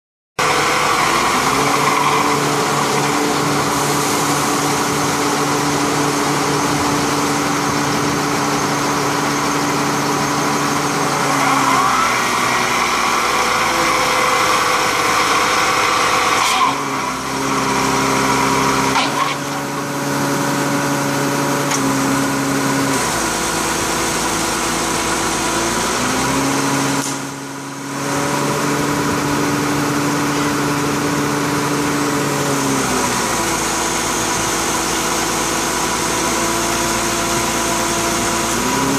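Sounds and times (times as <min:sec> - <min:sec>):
drilling rig engine running: 0:00.4 - 0:38.9.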